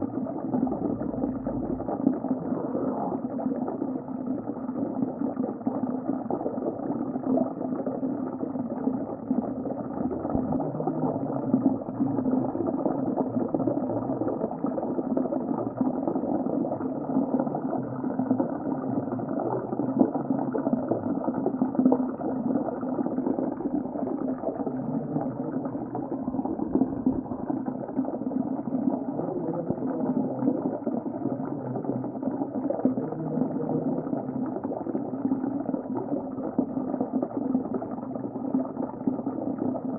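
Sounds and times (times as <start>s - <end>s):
underwater water rush: 0.0s - 39.9s.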